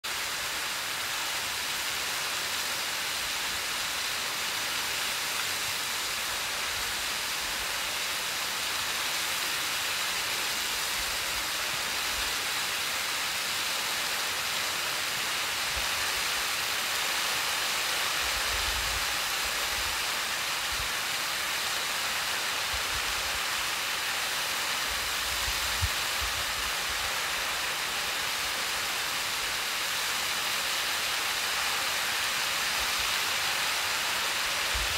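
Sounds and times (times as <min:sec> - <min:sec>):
waterfall rushing onto rocks: 0:00.0 - 0:34.9.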